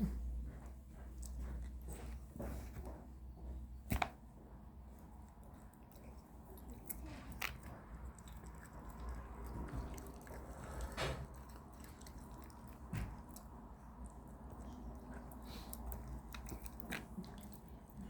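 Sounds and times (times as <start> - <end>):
fox cub chewing food: 0.0 - 18.0.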